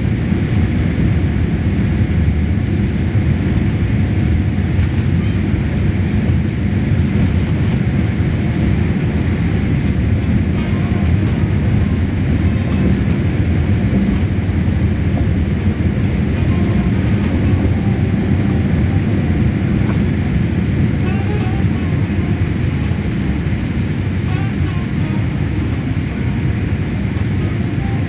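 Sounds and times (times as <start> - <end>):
jet engines in cabin: 0.0 - 28.0.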